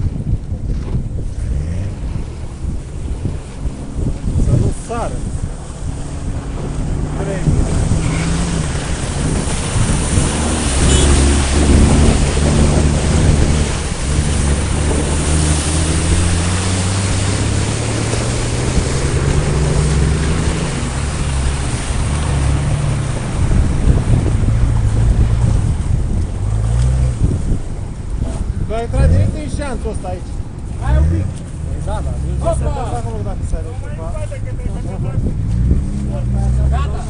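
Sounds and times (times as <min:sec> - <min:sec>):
off-road vehicle engine revving: 0:00.0 - 0:37.0
wind noise on microphone: 0:00.0 - 0:37.0.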